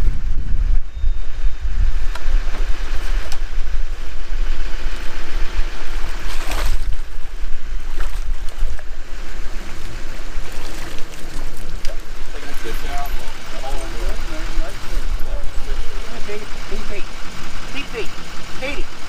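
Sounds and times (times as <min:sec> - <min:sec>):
wind buffeting the microphone: 0:00.0 - 0:16.5.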